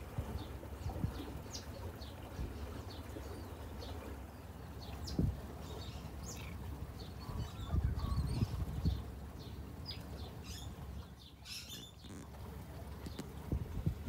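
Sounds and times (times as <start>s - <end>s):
small birds chirping: 0.4s - 12.3s.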